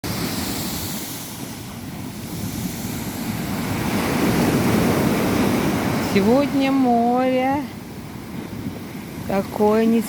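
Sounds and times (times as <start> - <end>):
rough sea surf washing ashore: 0.0 - 10.0.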